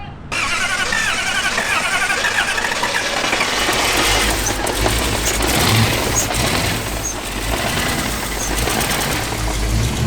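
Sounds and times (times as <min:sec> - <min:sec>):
high chirping squeaks: 0:00.3 - 0:09.8
deep engine rumble: 0:00.3 - 0:10.0
vehicle engine running: 0:00.3 - 0:10.0.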